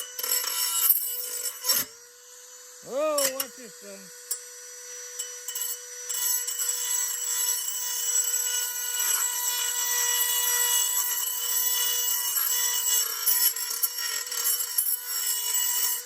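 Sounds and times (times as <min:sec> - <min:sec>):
power grinder whining: 0:00.0 - 0:16.0.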